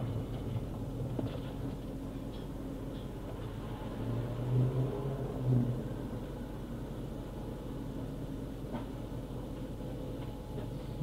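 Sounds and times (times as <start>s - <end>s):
tram rumbling: 0.0s - 11.0s.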